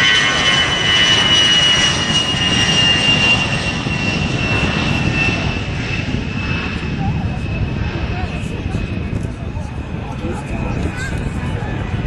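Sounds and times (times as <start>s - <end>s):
jet engines running with whine: 0.0s - 12.0s.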